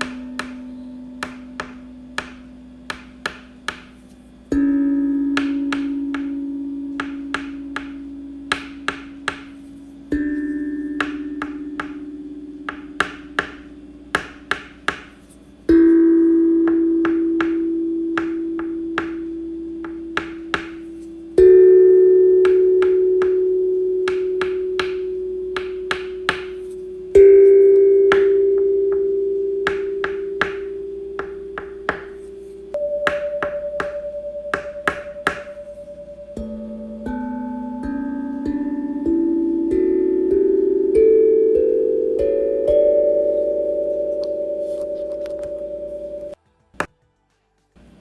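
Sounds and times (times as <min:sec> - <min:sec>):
bell-like struck tones: 0:00.0 - 0:46.4.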